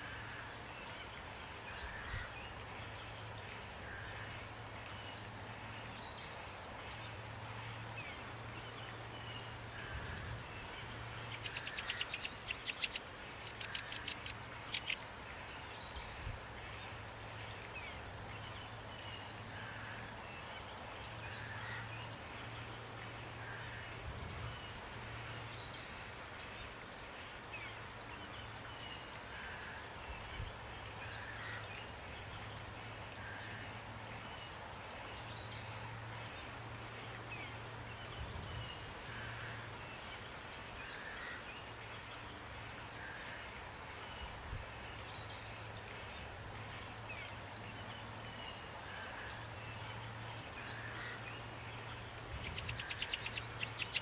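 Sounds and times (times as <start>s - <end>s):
rain hiss: 0.0s - 54.0s
songbirds singing: 0.0s - 54.0s.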